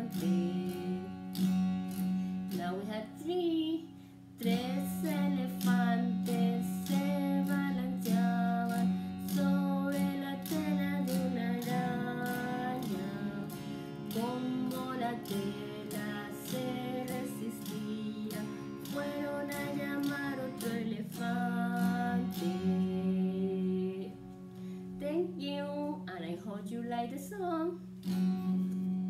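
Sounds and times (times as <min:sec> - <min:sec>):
woman singing children's song: 0:00.0 - 0:24.4, 0:25.0 - 0:27.9
electric guitar strumming: 0:00.0 - 0:26.0, 0:27.3 - 0:29.0.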